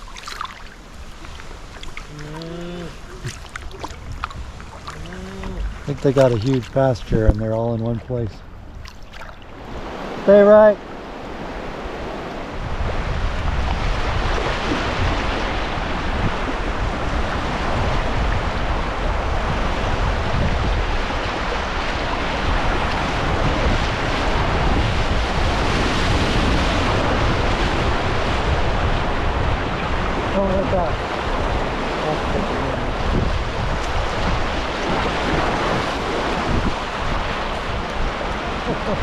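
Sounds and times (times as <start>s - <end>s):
river current rushing: 0.0s - 13.2s, 21.0s - 39.0s
wind buffeting microphone: 0.0s - 39.0s.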